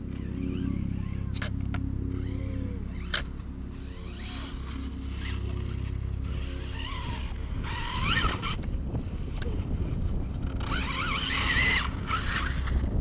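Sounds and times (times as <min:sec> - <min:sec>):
toy truck motor whining: 0:00.0 - 0:01.5, 0:02.1 - 0:09.6, 0:10.4 - 0:12.9
wind rumble on microphone: 0:00.0 - 0:13.0.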